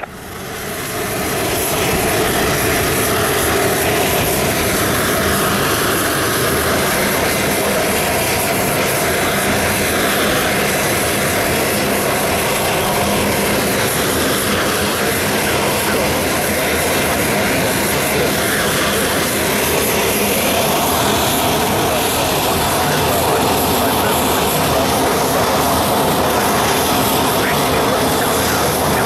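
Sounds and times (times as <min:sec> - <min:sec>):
high jet whine: 0:00.0 - 0:29.0
jet engines running: 0:00.0 - 0:29.0.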